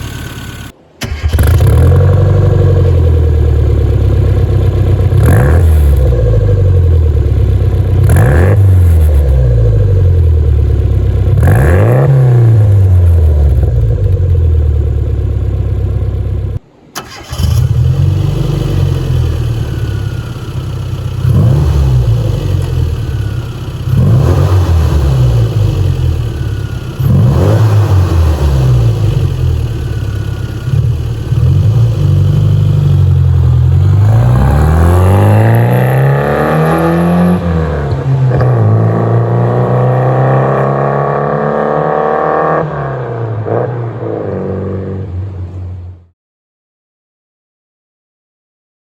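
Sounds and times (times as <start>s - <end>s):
car engine revving: 0.0s - 15.1s, 17.0s - 45.6s.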